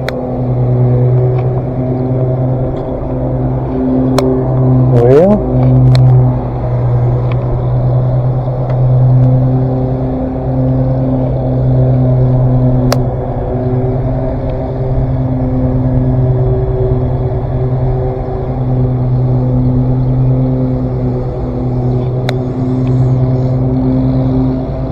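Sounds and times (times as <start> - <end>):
engine running: 0.0 - 24.9.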